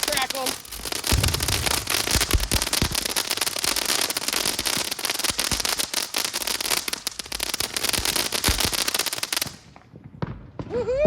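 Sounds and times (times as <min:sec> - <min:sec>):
firework hissing and crackling: 0:00.0 - 0:09.7.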